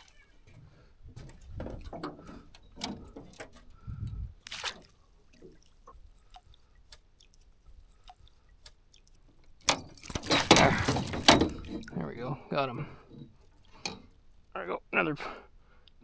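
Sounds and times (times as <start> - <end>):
water dripping and splashing: 0.0 - 14.5.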